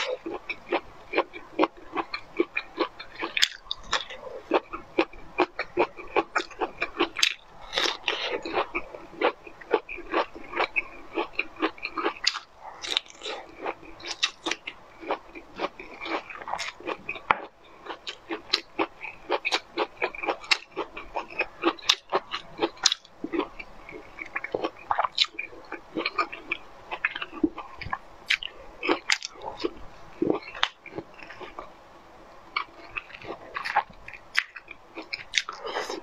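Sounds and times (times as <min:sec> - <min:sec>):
person chewing crunchy food: 0:00.0 - 0:31.7, 0:32.5 - 0:36.0.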